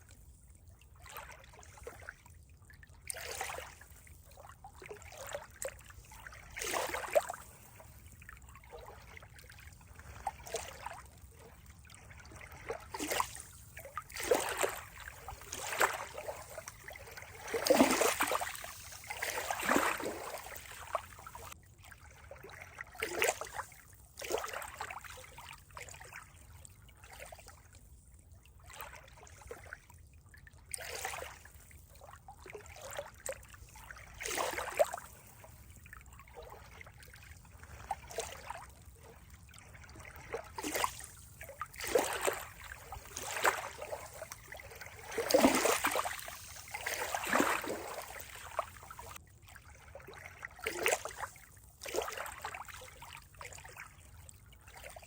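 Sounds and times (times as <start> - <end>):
small water splashes: 0.0 - 55.0
water trickling and gurgling: 0.0 - 55.0.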